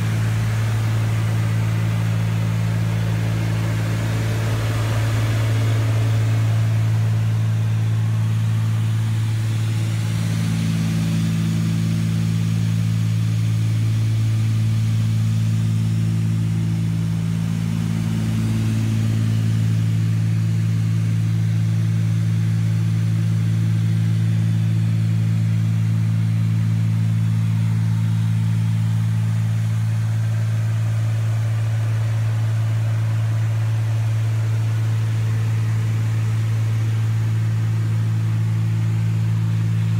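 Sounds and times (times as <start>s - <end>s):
aircraft engines droning in cabin: 0.0s - 39.9s.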